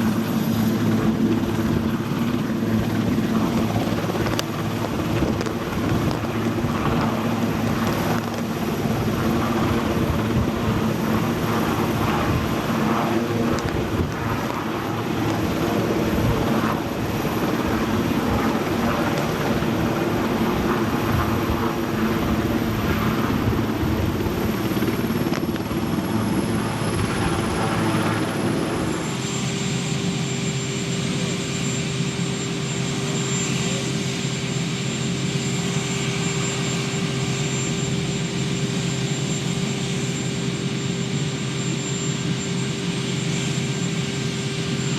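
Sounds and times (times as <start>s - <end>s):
helicopter rotor and turbine: 0.0s - 44.9s.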